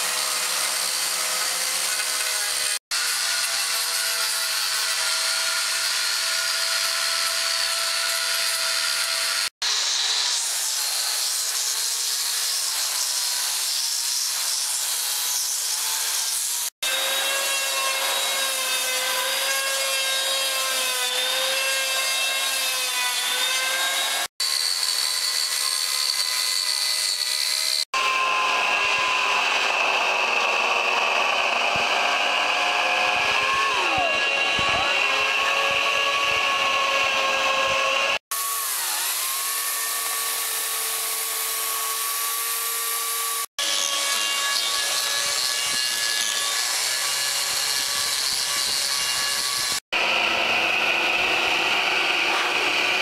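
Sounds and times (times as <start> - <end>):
angle grinder cutting wood: 0.0 - 53.0
electric chainsaw: 0.0 - 53.0
electric hand planer: 0.0 - 53.0.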